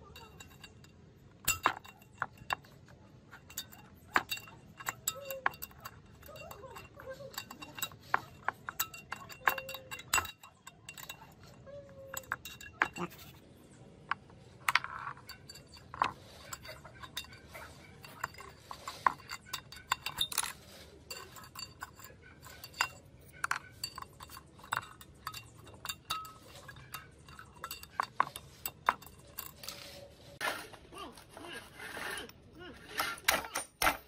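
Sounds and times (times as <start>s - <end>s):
metal clinks and taps: 0.0s - 30.6s.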